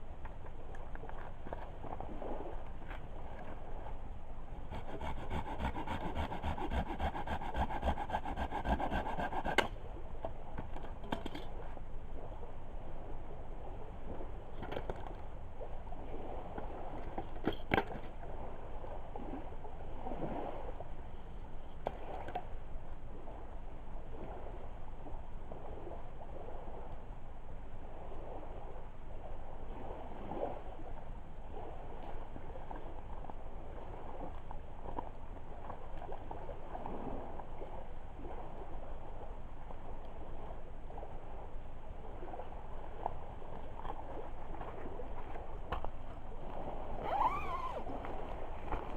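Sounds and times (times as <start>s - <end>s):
water lapping at shore: 0.0s - 48.9s.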